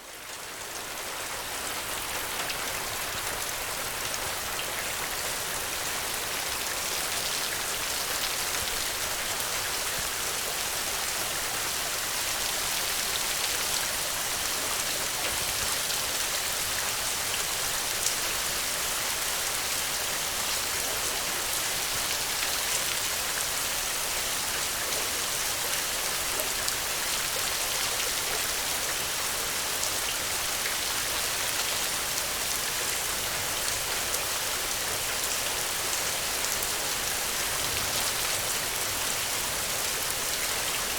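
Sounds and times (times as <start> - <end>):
rain falling on ground: 0.0 - 40.9.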